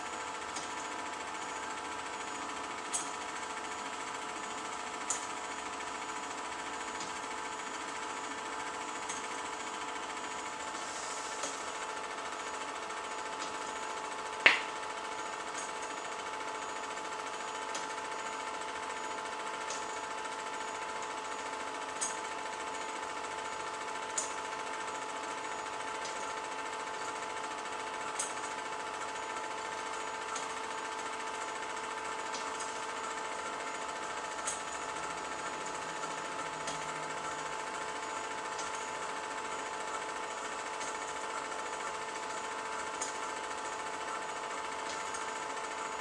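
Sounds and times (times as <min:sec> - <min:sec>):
film projector clatter and whir: 0:00.0 - 0:46.0.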